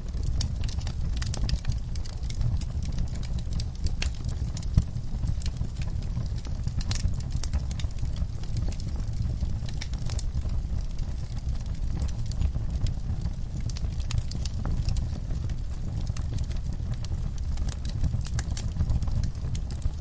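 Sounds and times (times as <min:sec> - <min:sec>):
firepit fire crackling and popping: 0:00.0 - 0:20.0.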